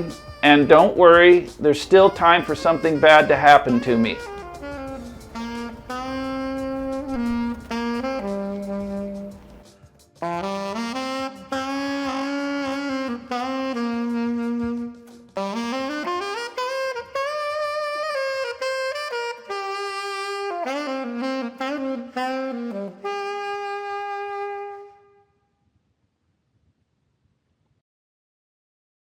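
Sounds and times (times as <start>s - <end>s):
solo saxophone jazz melody: 0.0s - 25.4s.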